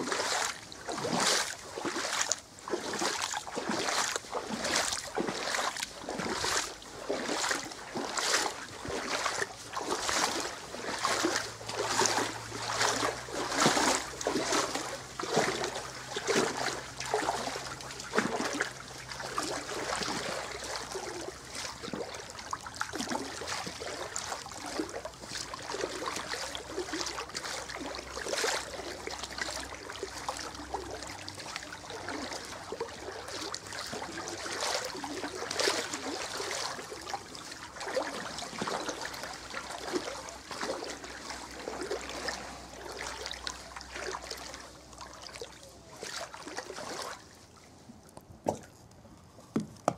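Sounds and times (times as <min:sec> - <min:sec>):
water sloshing around waders: 0:00.0 - 0:49.9.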